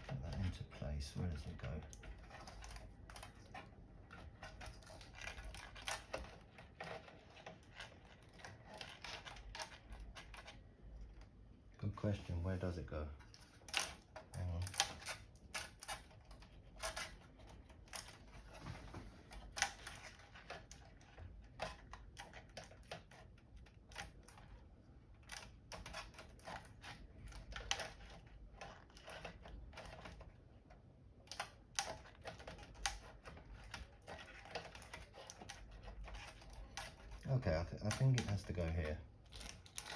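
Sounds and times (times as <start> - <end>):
light clicks and taps of plastic parts: 0.0 - 39.9.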